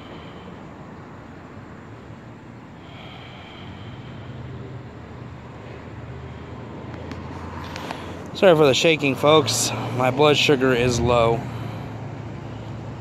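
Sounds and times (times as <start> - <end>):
outdoor road noise: 0.0 - 13.0
vehicle engine hum: 0.0 - 13.0.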